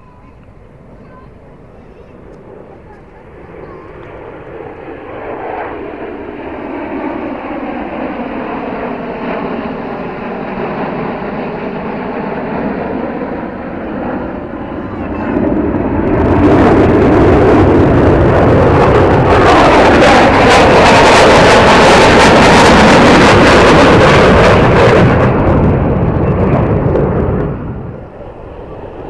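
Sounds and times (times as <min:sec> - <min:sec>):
fighter jets flying over: 0:00.0 - 0:29.0.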